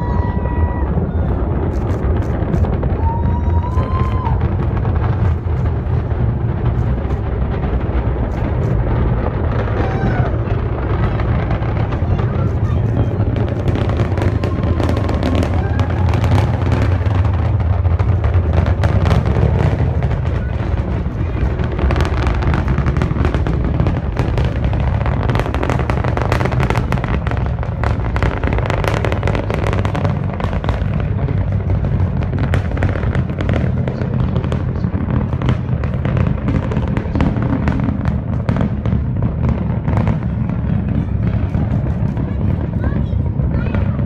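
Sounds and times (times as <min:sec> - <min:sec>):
rocket engine rumble with crackling: 0:00.0 - 0:44.0.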